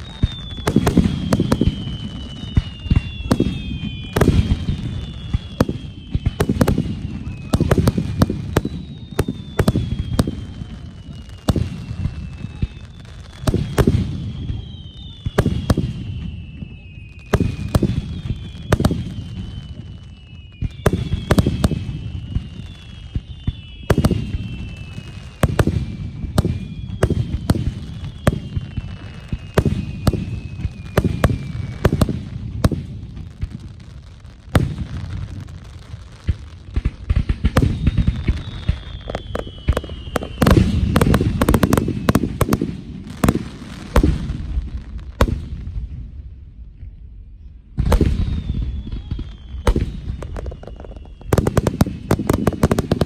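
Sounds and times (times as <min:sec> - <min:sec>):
fireworks bursting with bangs: 0:00.0 - 0:53.0
fireworks whistling down in pitch: 0:00.0 - 0:53.0.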